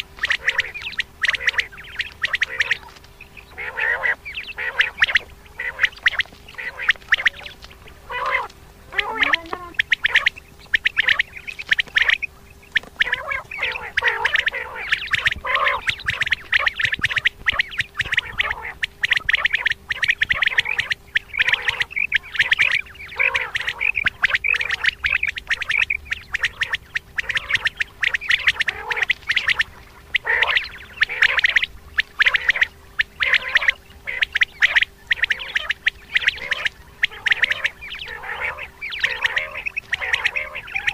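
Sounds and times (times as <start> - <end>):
faint steady hum: 0.0 - 40.9
quail calling: 0.0 - 40.9.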